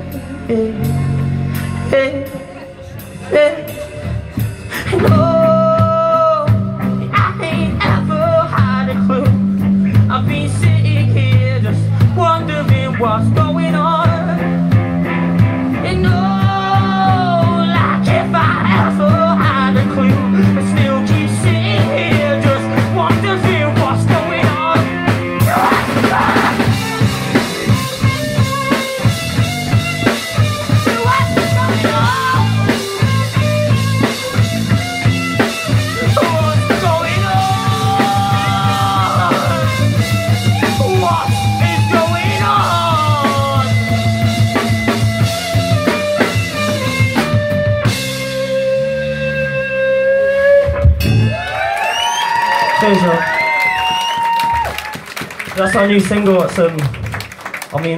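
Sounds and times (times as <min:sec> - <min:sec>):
lead guitar line with bending notes: 0:00.0 - 0:51.6
drum kit: 0:00.0 - 0:57.9
live rock band playing: 0:00.0 - 0:57.9.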